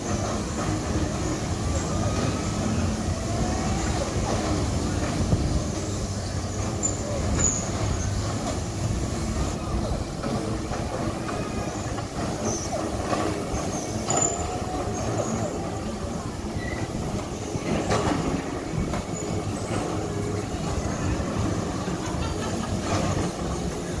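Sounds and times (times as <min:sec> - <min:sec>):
bumper cars rumbling and whirring: 0:00.0 - 0:24.0.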